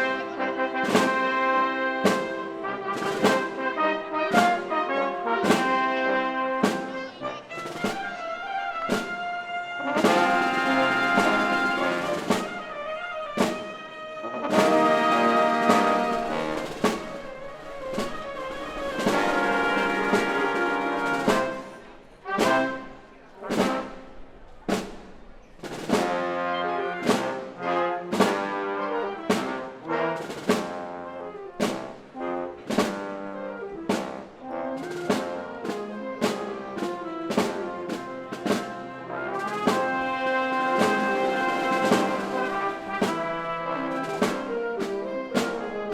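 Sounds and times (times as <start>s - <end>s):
symphony orchestra with brass: 0.0s - 45.9s.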